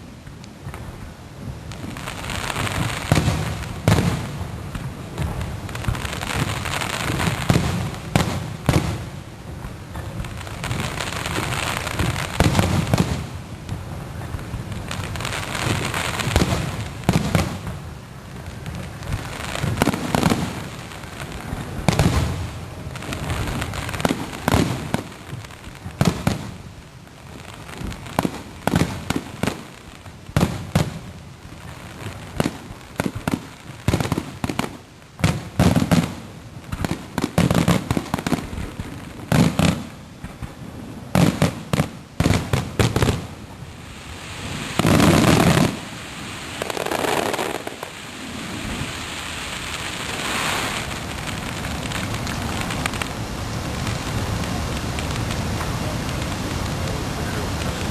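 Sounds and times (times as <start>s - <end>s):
firework bangs: 0.0s - 57.9s.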